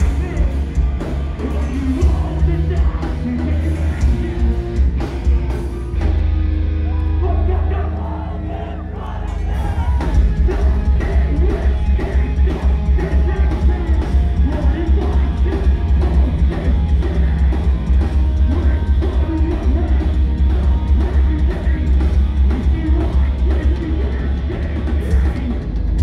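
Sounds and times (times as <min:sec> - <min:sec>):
vocals: 0:00.0 - 0:06.1, 0:06.8 - 0:26.0
drums: 0:00.0 - 0:26.0
live rock band playing: 0:00.0 - 0:26.0.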